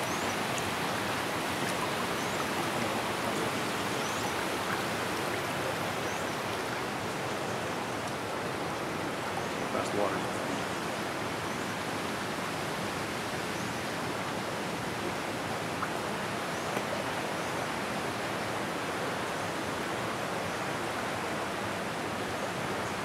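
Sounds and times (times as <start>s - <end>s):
water rushing through stone channel: 0.0s - 23.0s.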